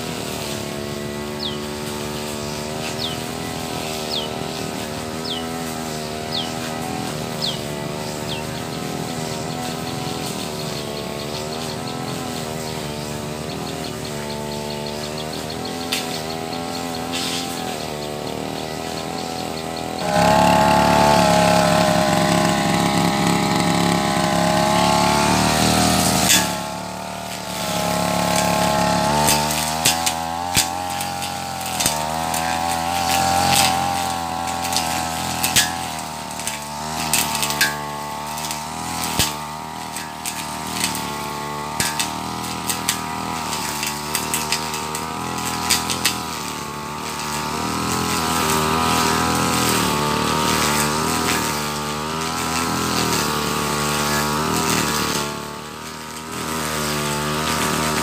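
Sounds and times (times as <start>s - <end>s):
brush cutter engine running: 0.0s - 58.0s.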